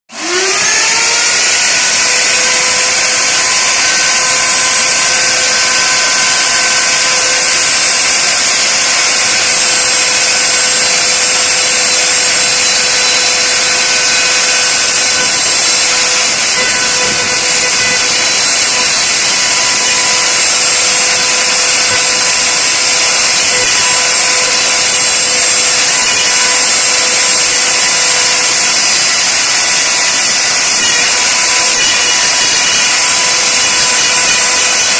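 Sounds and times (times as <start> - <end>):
router motor high-pitched whine: 0.1 - 34.9.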